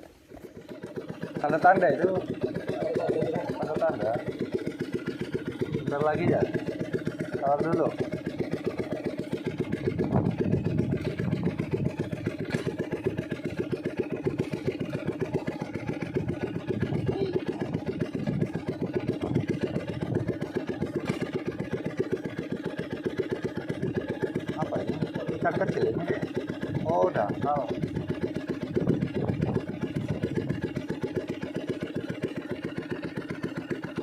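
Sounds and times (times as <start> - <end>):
boat engine chugging: 0.0 - 34.0.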